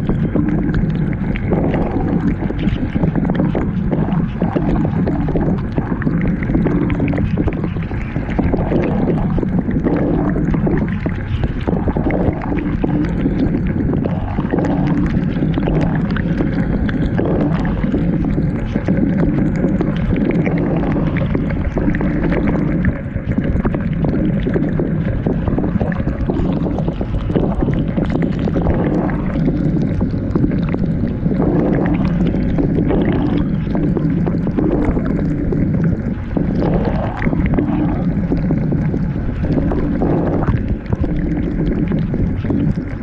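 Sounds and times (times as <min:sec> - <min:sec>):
dishwasher low rumble: 0:00.0 - 0:43.0.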